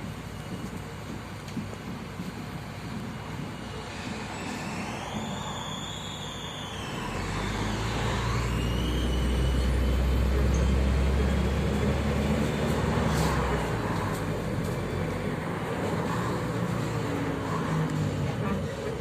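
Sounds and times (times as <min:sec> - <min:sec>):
bus diesel engine drone: 0:00.0 - 0:19.0
road noise: 0:00.0 - 0:19.0.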